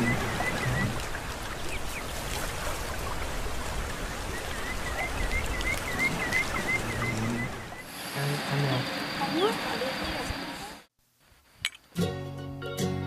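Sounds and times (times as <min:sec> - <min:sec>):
steady hiss of water: 0:00.0 - 0:10.9.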